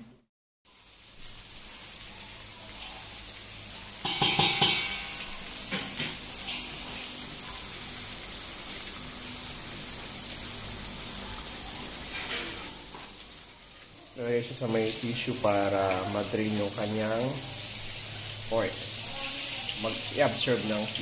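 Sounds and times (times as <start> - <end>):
fish sizzling in hot oil: 0.7 - 21.0.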